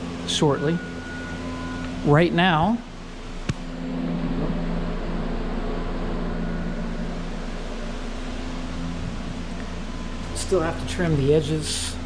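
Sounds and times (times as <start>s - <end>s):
mechanical hum with low drone: 0.0s - 12.0s.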